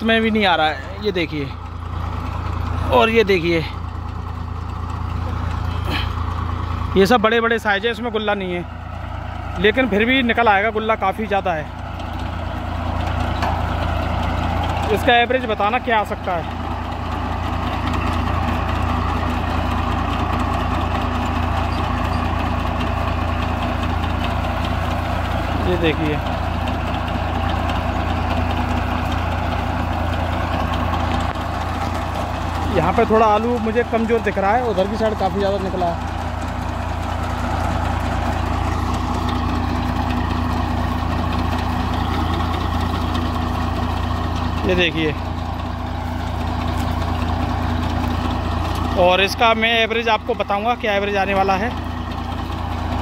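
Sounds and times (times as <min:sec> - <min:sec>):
tractor engine running: 0:00.0 - 0:53.0
soil and potatoes rattling on grid: 0:09.6 - 0:53.0.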